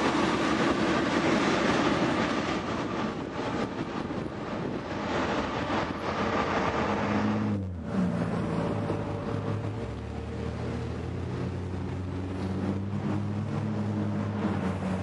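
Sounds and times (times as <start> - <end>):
diesel locomotive engine humming: 0.0 - 15.0
freight train rolling: 0.0 - 15.0.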